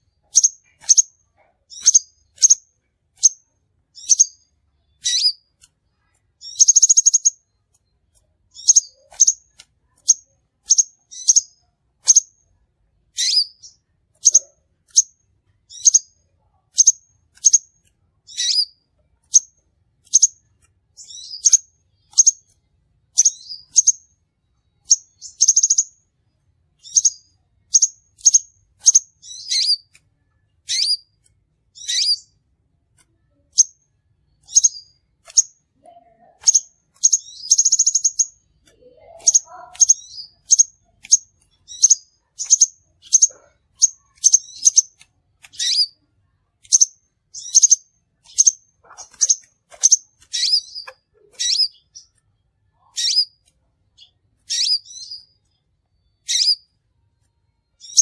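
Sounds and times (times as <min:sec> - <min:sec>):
bird high-pitched chips: 0:00.2 - 0:12.4, 0:13.1 - 0:16.1, 0:16.7 - 0:24.0, 0:24.8 - 0:26.0, 0:26.8 - 0:32.4, 0:33.0 - 0:46.0, 0:46.6 - 0:52.2, 0:52.8 - 0:55.6, 0:56.2 - 0:56.7, 0:57.8 - 0:58.0.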